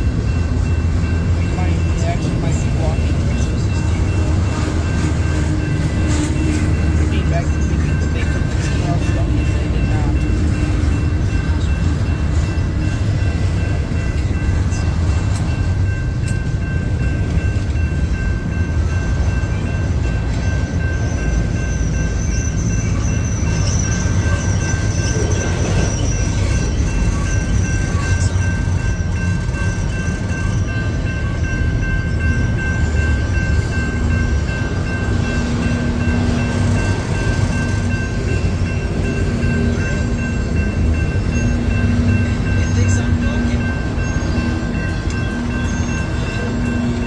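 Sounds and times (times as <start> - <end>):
high-pitched crossing bell ringing: 0.0 - 47.0
train wheels rumbling on rails: 0.0 - 47.0.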